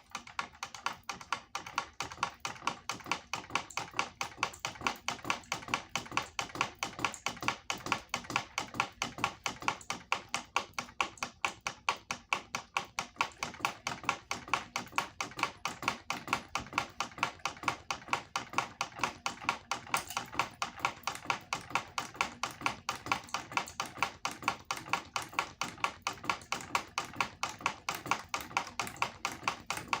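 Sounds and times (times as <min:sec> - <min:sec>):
ceiling fan rhythmic ticking: 0:00.0 - 0:30.0.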